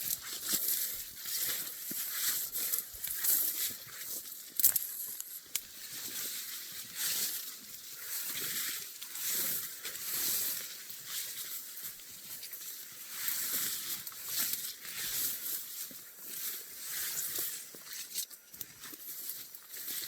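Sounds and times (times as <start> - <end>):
footsteps through marsh vegetation: 0.0 - 20.0.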